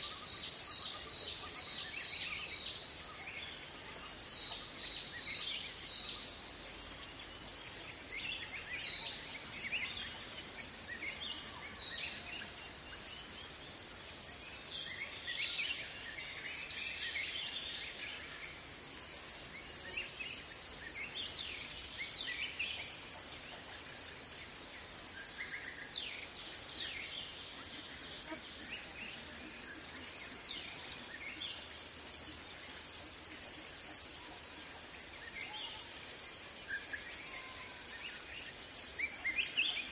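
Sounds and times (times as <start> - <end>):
shrill insect drone: 0.0 - 39.9.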